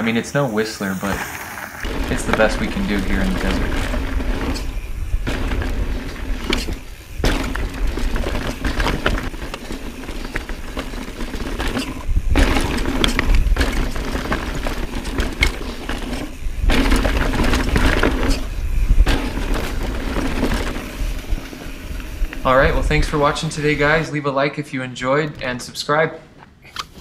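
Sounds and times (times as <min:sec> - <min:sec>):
bike rattling: 0:00.8 - 0:24.2
tyres crunching on dirt and stones: 0:01.0 - 0:24.1
wind rumble on microphone: 0:01.8 - 0:24.0.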